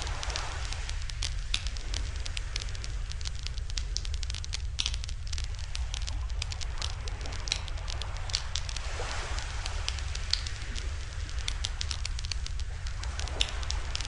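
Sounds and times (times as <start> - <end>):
sharp pops: 0.0 - 14.0
steady low rumble: 0.0 - 14.0
wood fire crackling: 0.0 - 14.0.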